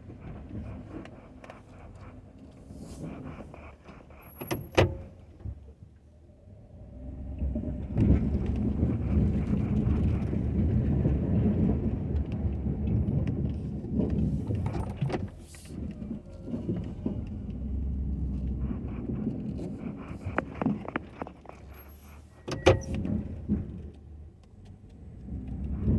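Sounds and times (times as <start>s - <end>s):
pickup truck engine rumble: 0.0s - 25.9s.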